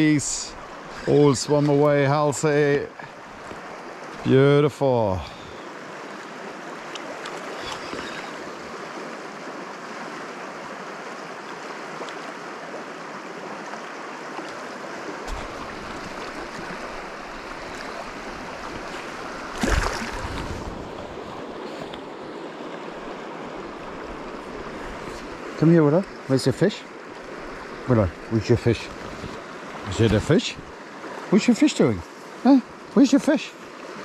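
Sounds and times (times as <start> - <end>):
river flowing over stones: 0.0 - 34.0.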